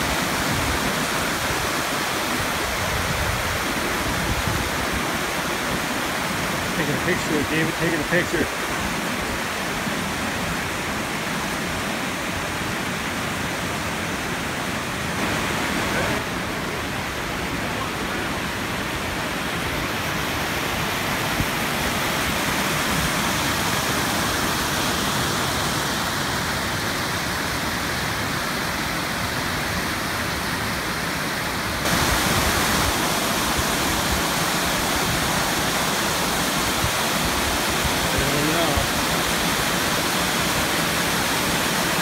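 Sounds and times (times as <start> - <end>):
waterfall roar: 0.0 - 42.0.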